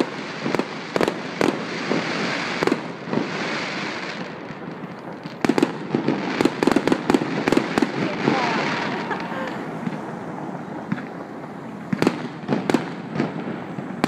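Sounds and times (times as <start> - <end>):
firework hissing crackle: 0.0 - 14.0.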